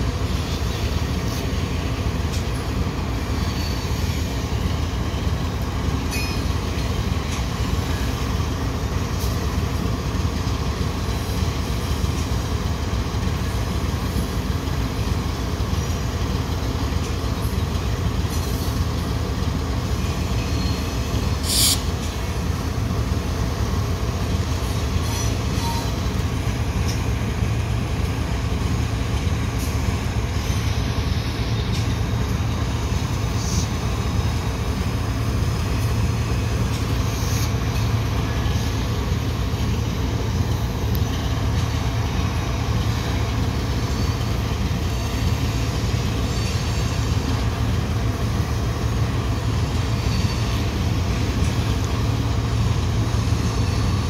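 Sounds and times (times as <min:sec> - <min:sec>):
diesel locomotive drone: 0:00.0 - 0:54.0
train wheels rumbling on rail: 0:00.0 - 0:54.0.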